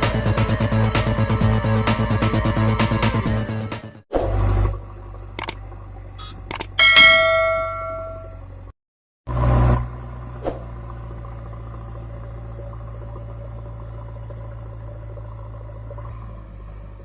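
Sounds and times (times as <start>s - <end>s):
diesel engine running at low revs: 0.0s - 8.7s, 9.3s - 17.0s.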